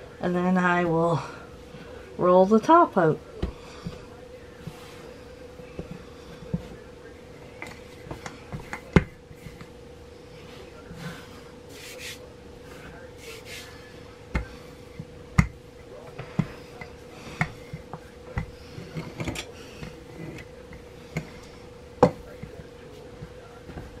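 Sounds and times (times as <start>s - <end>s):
rolling pin rolling dough: 0.0s - 24.0s
steady hum: 0.0s - 24.0s.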